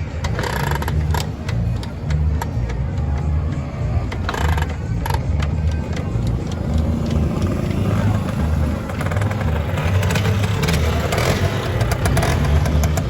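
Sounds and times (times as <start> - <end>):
scooter engines revving: 0.0 - 13.0.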